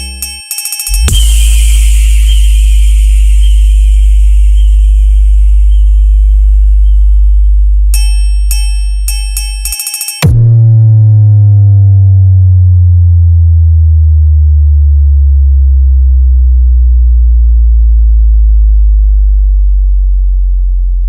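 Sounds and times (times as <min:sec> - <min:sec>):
electronic sub-bass tone: 0:00.0 - 0:00.2, 0:00.9 - 0:21.0.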